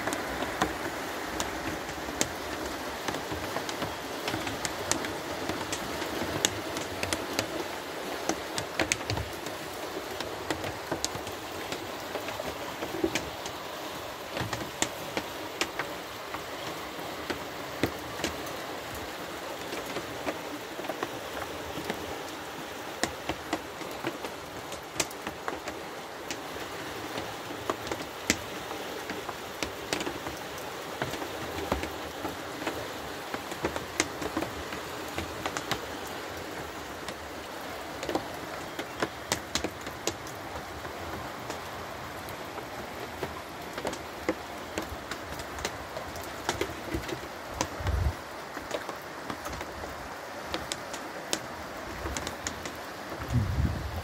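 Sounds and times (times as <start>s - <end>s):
rain falling: 0.0s - 54.0s
raindrops ticking close by: 0.0s - 54.0s.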